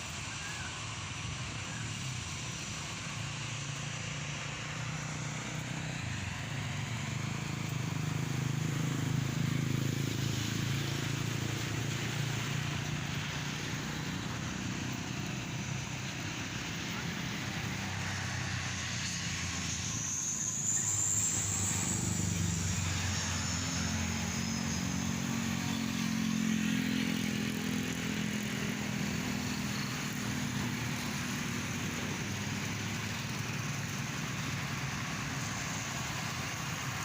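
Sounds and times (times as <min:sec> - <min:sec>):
airplane flying low overhead: 0:00.0 - 0:37.0
road traffic noise: 0:00.0 - 0:37.0.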